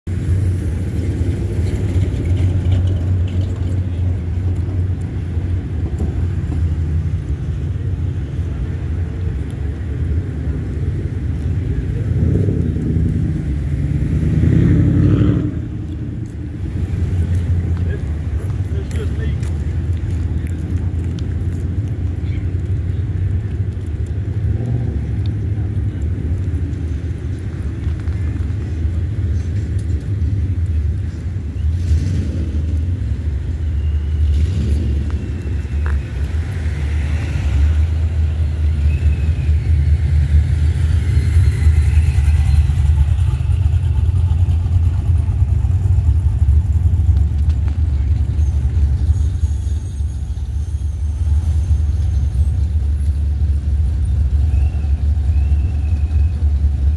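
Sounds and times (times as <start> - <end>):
cars driving slowly past: 0.1 - 56.9.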